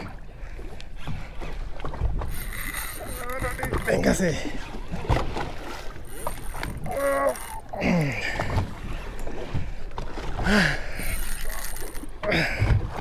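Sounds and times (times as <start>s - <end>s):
water noise around boat: 0.0s - 13.0s
wind: 0.0s - 13.0s.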